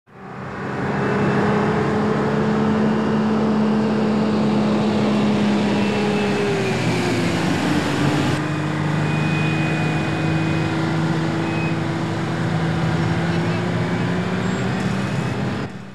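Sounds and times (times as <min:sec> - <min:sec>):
truck engine running: 0:00.1 - 0:15.9.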